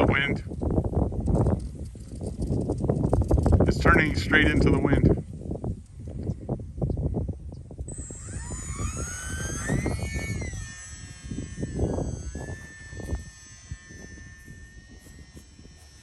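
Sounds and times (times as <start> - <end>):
electric motor and propeller whining: 0.0 - 16.0
wind buffeting microphone: 0.0 - 16.0.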